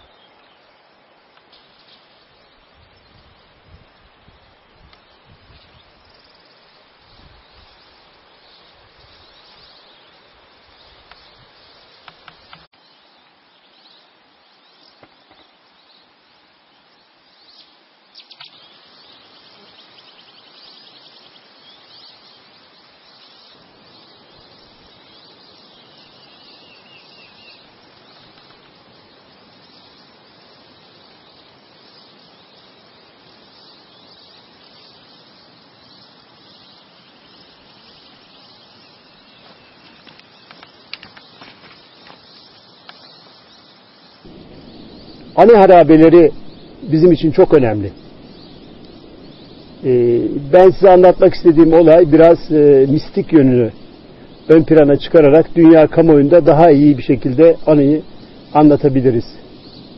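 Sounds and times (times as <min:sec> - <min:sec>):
higher insect trill: 0:00.0 - 0:59.9
insects chirping: 0:00.0 - 0:59.9
low hiss: 0:00.0 - 0:59.9.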